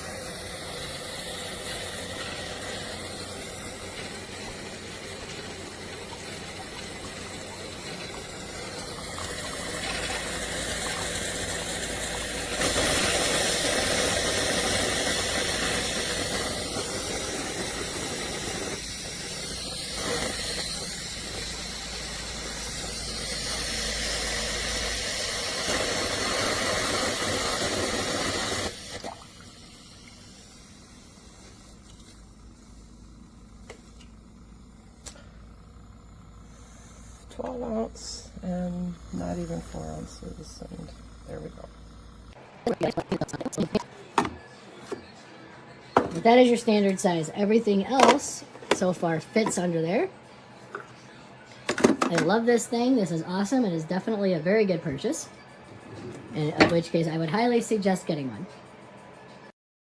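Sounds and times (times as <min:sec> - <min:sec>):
coffee maker hissing: 0:00.0 - 0:45.0, 0:46.0 - 0:50.0, 0:51.6 - 0:58.1.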